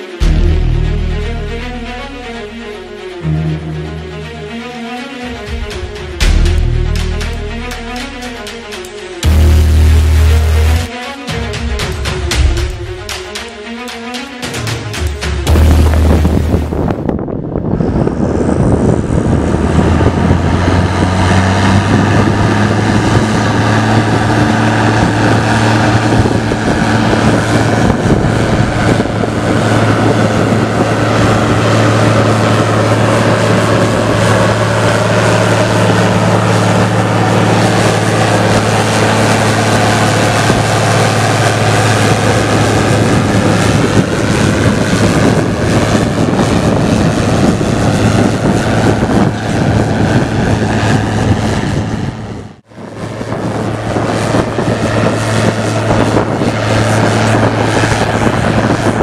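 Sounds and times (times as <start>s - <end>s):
tractor diesel engine roaring: 0.0s - 59.0s.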